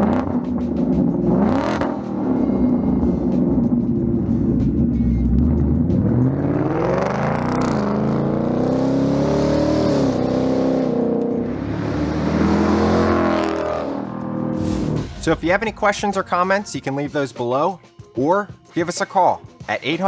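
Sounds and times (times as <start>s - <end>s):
car engine revving: 0.0s - 16.6s.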